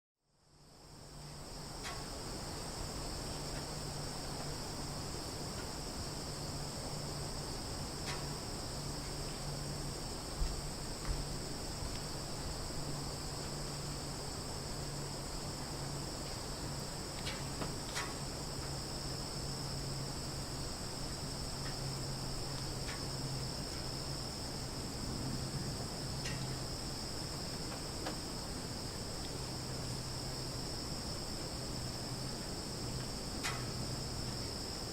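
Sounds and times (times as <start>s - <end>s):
low steady hum: 0.3s - 34.9s
crickets trilling: 0.4s - 34.9s.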